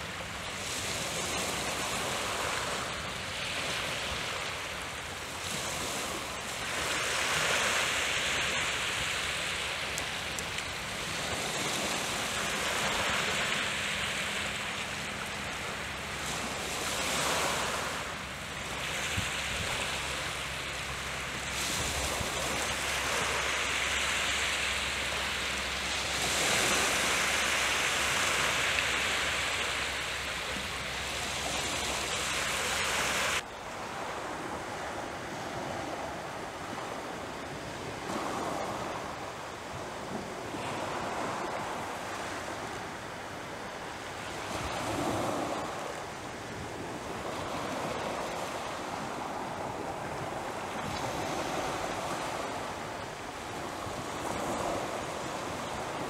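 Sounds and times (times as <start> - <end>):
waves washing against shore: 0.0 - 56.0.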